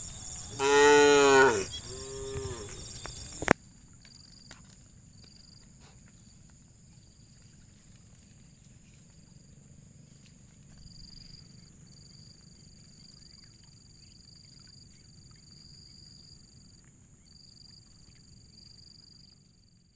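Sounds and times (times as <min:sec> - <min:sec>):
insects trilling: 0:00.0 - 0:19.9.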